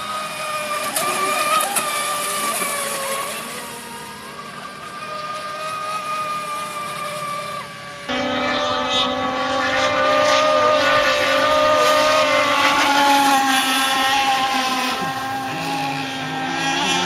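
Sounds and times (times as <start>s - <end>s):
speed boat motor whining: 0.0s - 17.0s.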